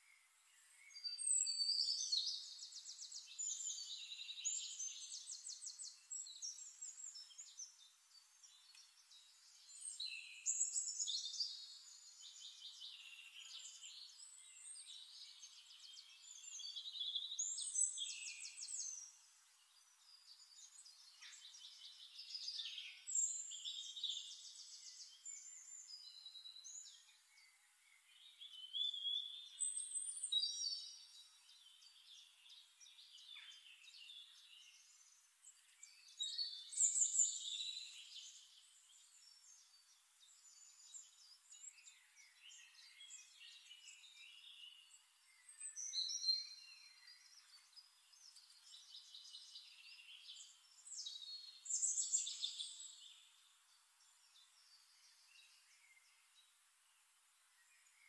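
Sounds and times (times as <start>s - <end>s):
songbird singing trills: 0.5s - 56.6s.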